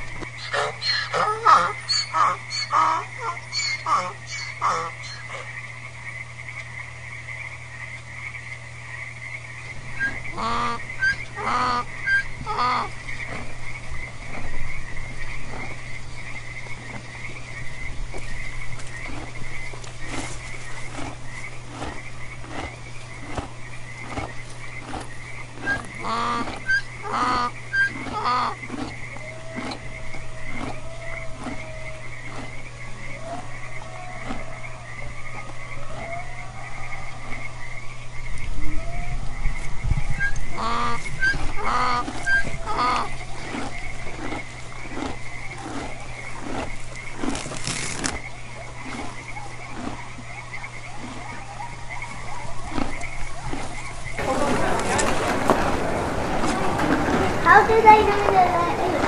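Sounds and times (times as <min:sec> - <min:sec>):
frogs high pulsing trill: 0:00.0 - 0:54.3
frogs croaking: 0:00.0 - 0:59.0.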